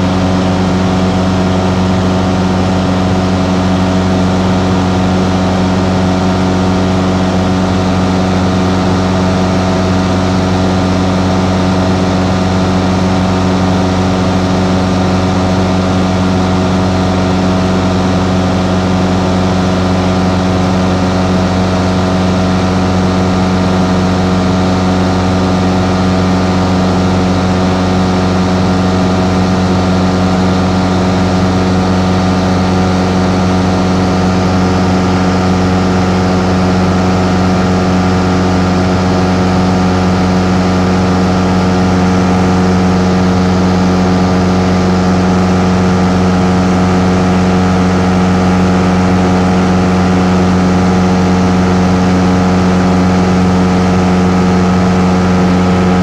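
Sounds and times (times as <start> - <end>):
propeller aircraft engine drone: 0.0 - 56.0
rushing airflow: 7.1 - 56.0.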